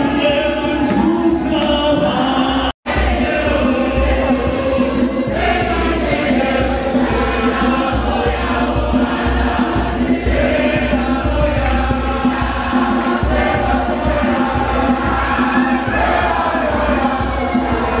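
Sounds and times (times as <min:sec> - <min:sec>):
choir singing a hymn: 0:00.0 - 0:18.0
steady beat: 0:02.9 - 0:18.0.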